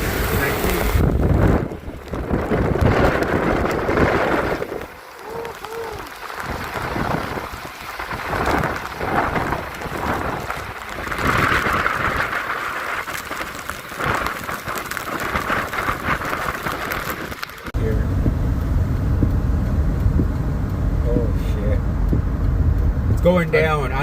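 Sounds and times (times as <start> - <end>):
strong wind gusts: 0.0 - 21.0
heavy rain pelting down: 0.0 - 24.0.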